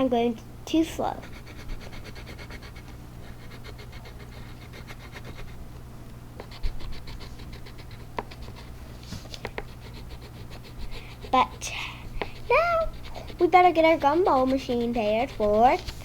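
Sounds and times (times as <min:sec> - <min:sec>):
crayon scribbling on paper: 0:01.2 - 0:05.6, 0:06.4 - 0:08.8, 0:09.5 - 0:16.0.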